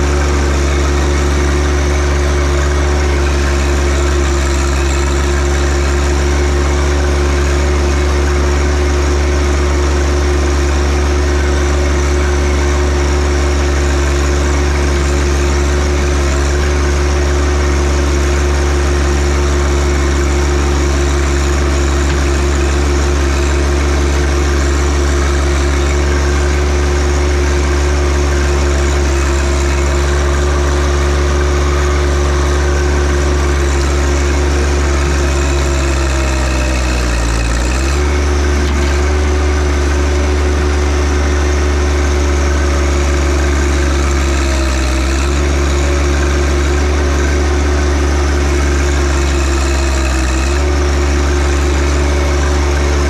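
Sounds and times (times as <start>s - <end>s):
diesel tractor engine running: 0.0s - 53.0s.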